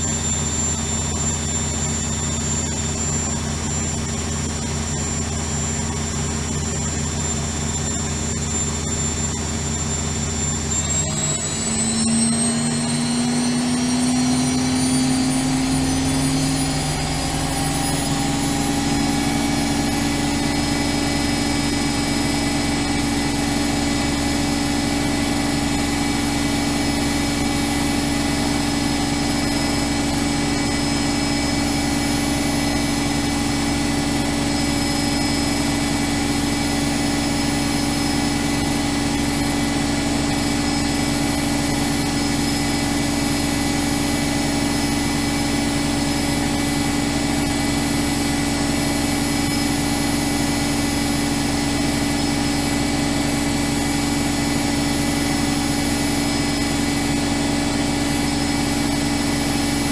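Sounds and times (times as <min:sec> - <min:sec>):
washing machine motor whine: 0:00.0 - 0:59.9.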